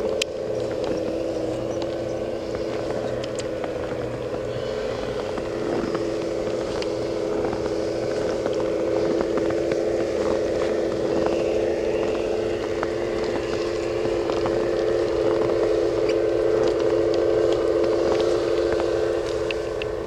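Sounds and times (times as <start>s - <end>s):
light clicks and crackles: 0.0s - 20.0s
model locomotive humming: 0.0s - 20.0s.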